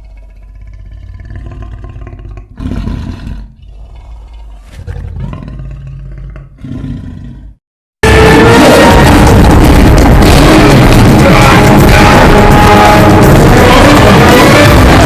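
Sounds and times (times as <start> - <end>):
deep monster roar: 0.0 - 15.0.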